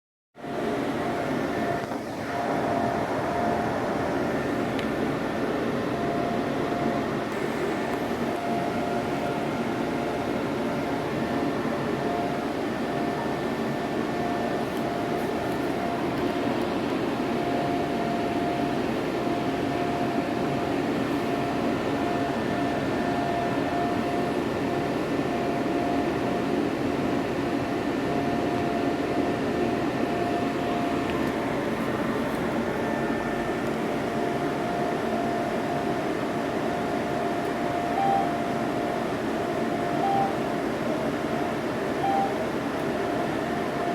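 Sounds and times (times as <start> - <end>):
machine humming with whine: 0.4 - 43.9.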